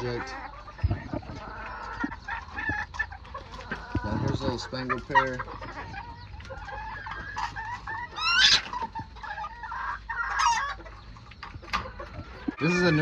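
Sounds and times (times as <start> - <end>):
chickens clucking and calling: 0.0 - 13.0.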